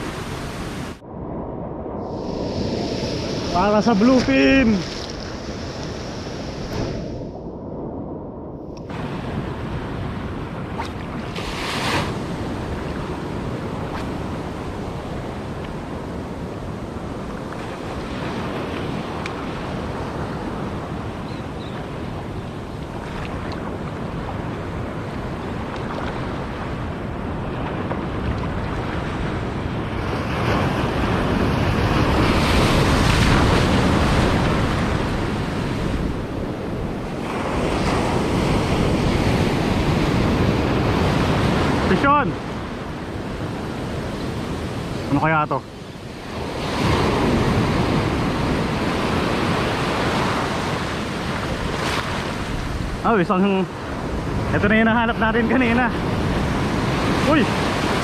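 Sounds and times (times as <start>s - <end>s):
sea surf washing in: 0.0s - 58.0s
wind buffeting microphone: 0.0s - 58.0s.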